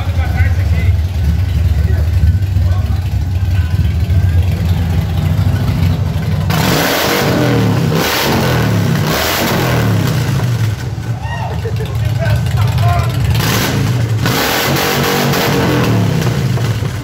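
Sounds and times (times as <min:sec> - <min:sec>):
engine idling: 0:00.0 - 0:17.0
motorcycle engine revving: 0:00.0 - 0:17.0.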